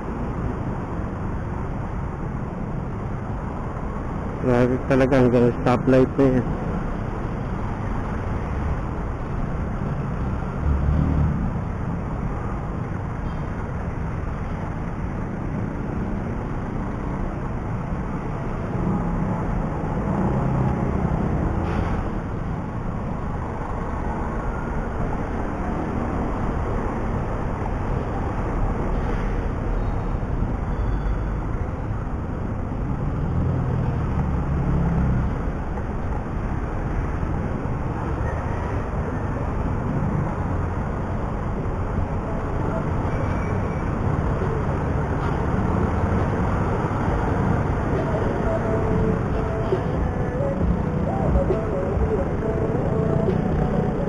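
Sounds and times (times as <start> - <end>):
city traffic: 0.0 - 54.0.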